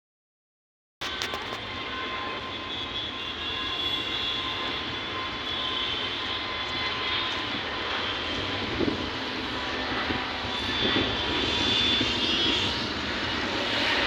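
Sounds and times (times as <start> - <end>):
jet engine high whine: 1.0 - 14.0
jet engines rushing: 1.0 - 14.0.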